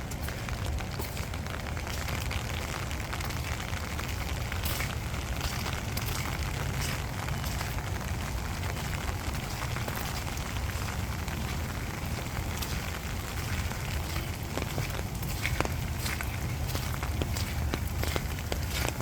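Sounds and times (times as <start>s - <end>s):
steady rain pattering: 0.0s - 19.0s.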